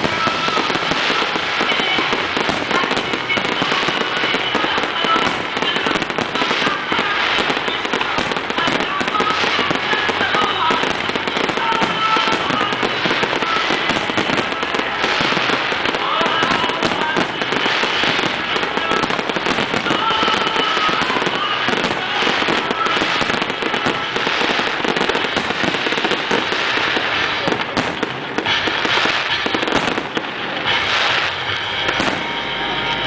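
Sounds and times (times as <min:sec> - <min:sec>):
fireworks bursting and crackling: 0:00.0 - 0:33.0.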